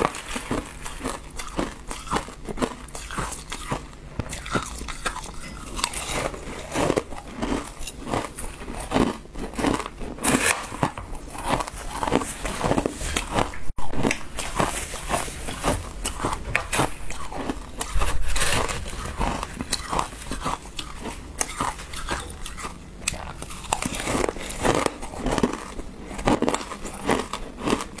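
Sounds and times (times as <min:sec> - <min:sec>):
shaved ice crunching while chewed: 0:00.0 - 0:28.0.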